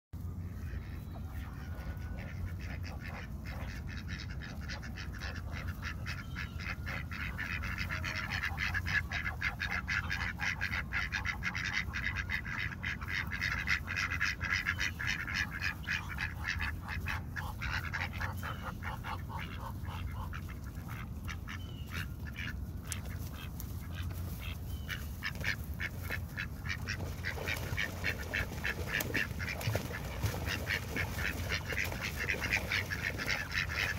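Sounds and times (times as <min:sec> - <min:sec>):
ducks quacking: 0:00.2 - 0:33.9.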